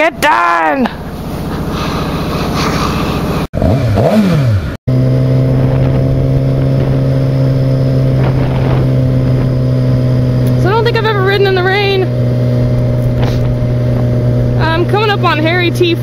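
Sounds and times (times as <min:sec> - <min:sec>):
motorcycle engine accelerating: 0:00.8 - 0:16.0.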